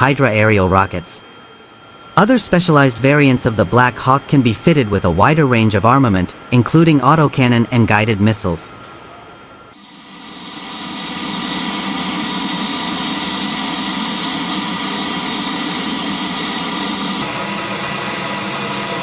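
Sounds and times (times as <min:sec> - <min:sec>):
helicopter engine whining drone: 0:00.0 - 0:19.0.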